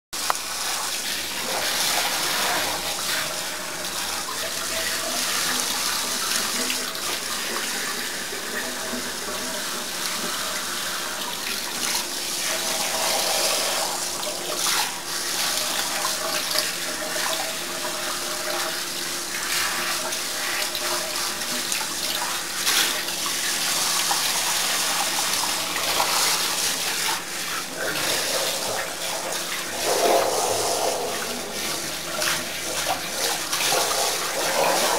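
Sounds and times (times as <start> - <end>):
shower spraying into bathtub: 0.2 - 34.9.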